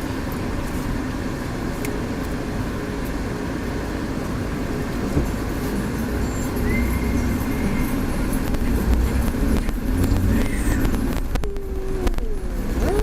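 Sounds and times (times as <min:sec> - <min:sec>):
car engine and road noise: 0:00.0 - 0:13.0
constant low hum: 0:00.0 - 0:13.0.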